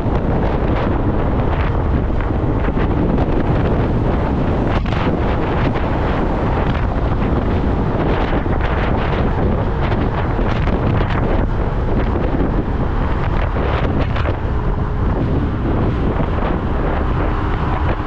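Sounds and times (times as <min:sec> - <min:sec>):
motorcycle running: 0:00.0 - 0:18.0
road noise: 0:00.0 - 0:18.0
wind rushing over microphone: 0:00.0 - 0:18.0.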